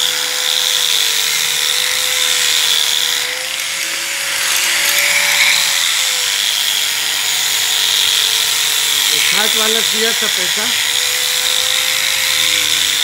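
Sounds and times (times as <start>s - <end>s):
angle grinder buffing wood: 0.0s - 13.0s.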